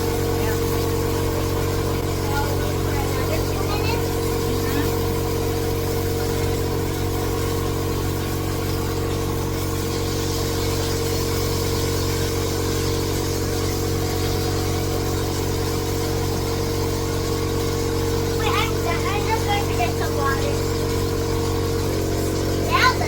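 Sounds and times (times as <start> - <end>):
meat sizzling in a pot: 0.0 - 23.0.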